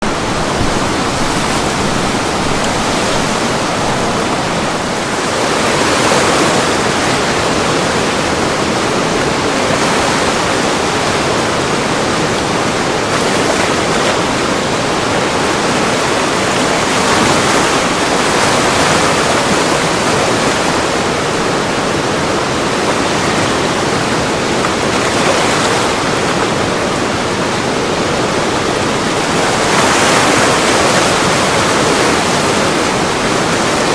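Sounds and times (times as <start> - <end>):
river rapids rushing: 0.0 - 33.9.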